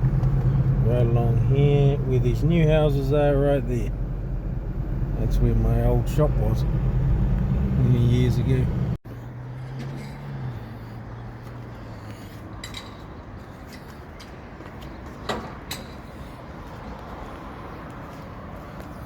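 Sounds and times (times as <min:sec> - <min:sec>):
road and engine noise: 0:00.0 - 0:19.0.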